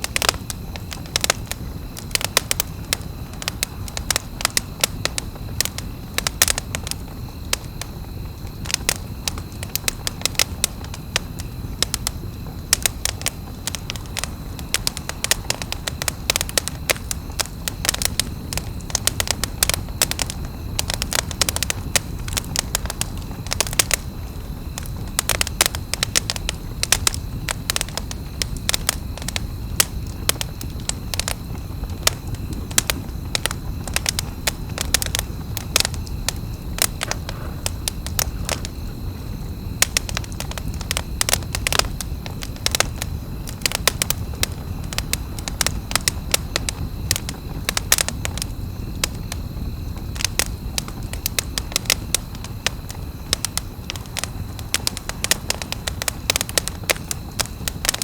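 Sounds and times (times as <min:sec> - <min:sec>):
low rumble of burning fire: 0:00.0 - 0:58.0
wood snapping and popping: 0:00.0 - 0:58.0.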